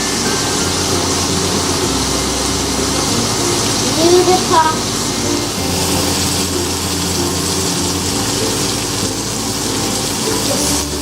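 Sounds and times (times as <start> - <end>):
chicken sizzling in a frying pan: 0.1 - 11.0.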